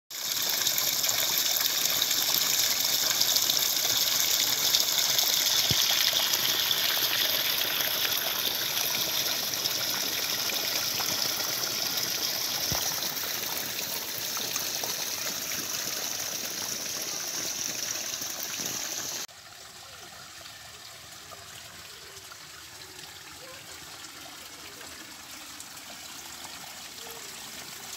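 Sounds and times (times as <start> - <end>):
water gushing into channel: 0.1 - 27.9.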